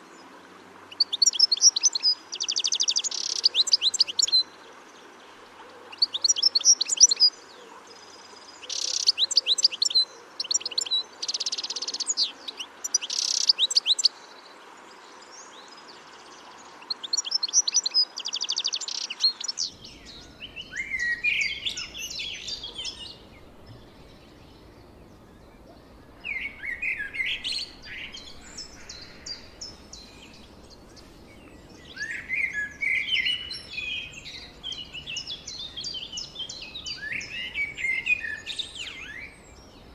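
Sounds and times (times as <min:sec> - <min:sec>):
songbird trills: 0:00.0 - 0:39.9
songbird twittering: 0:00.9 - 0:04.5, 0:05.6 - 0:14.4, 0:15.4 - 0:39.9.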